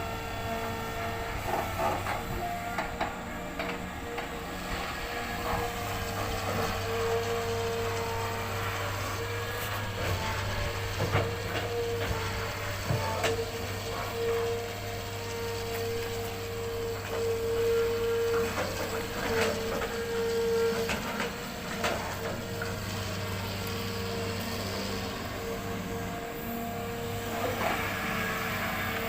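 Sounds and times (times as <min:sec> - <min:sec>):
excavator engine hum: 0:00.0 - 0:29.0
hydraulic whine: 0:00.0 - 0:29.0.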